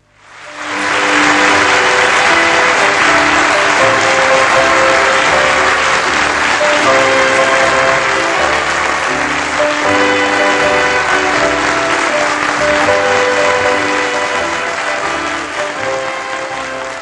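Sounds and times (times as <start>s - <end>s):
audience applauding: 0.0s - 17.0s
music with held notes: 0.0s - 17.0s.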